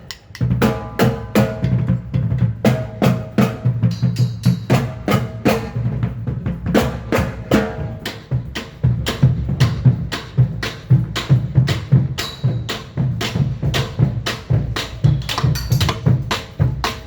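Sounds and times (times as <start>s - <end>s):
bass drum and snare strikes: 0.0s - 17.0s.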